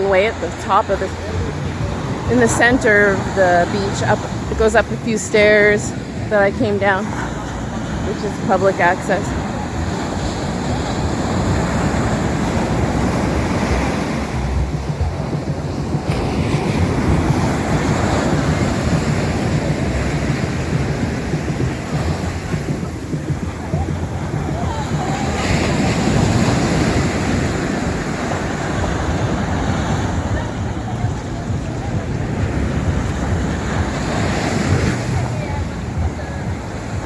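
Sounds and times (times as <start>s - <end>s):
ocean surf breaking on beach: 0.0s - 37.0s
wind buffeting microphone: 0.0s - 37.0s.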